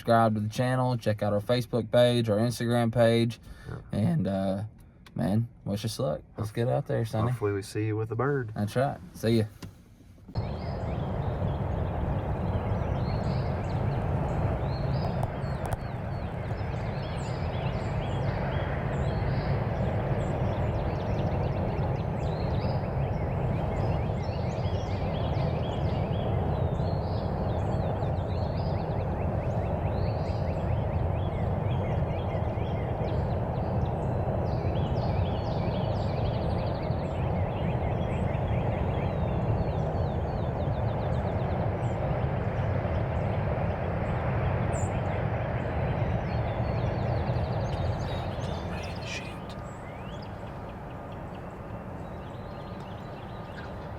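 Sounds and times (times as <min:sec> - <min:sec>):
songbirds chirping and trilling: 0:00.0 - 0:09.7, 0:10.3 - 0:53.9
road traffic rumble: 0:00.0 - 0:53.9.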